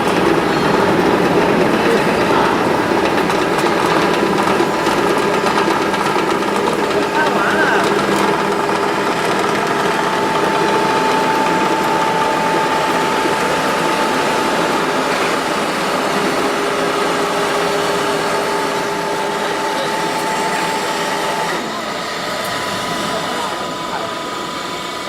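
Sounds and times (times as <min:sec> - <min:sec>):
machine humming with whine: 0:00.0 - 0:25.0.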